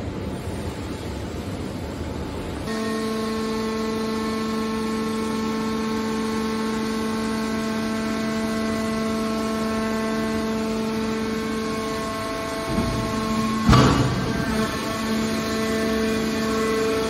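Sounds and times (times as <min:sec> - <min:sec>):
hydraulic pump whining: 0:02.7 - 0:17.0.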